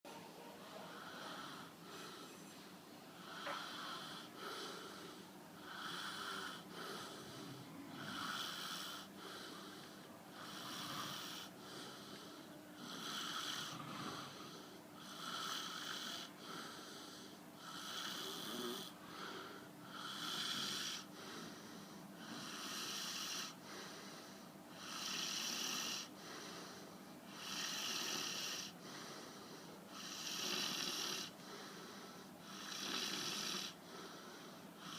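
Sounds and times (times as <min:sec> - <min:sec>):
person snoring: 0:03.2 - 0:21.6, 0:22.2 - 0:26.7, 0:27.3 - 0:28.8, 0:29.9 - 0:34.9.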